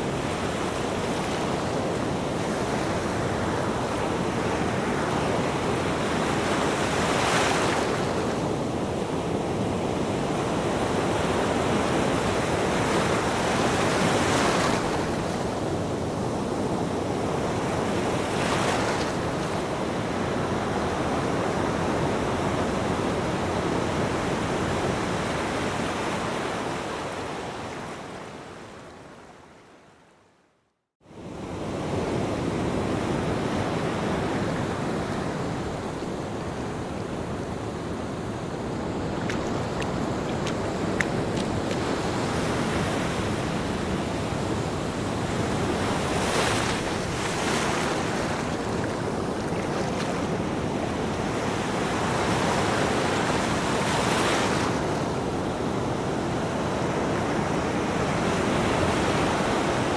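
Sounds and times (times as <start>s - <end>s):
waves breaking on a beach: 0.0s - 30.0s, 31.0s - 59.9s.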